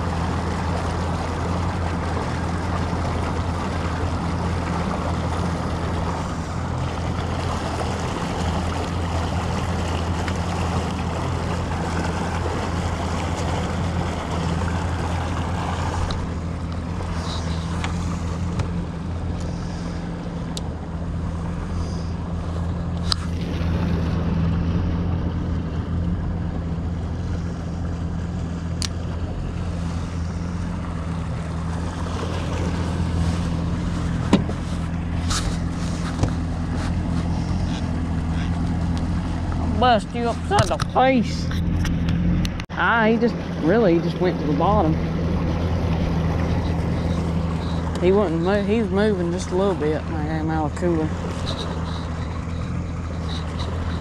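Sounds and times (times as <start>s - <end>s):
boat motor humming: 0.0s - 54.0s
water rushing along hull: 0.0s - 54.0s.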